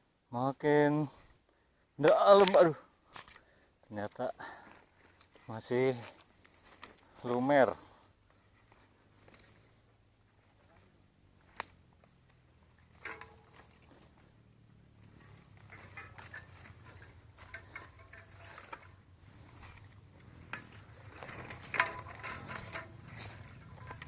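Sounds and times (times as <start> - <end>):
bicycle squelching through mud: 4.4 - 24.0.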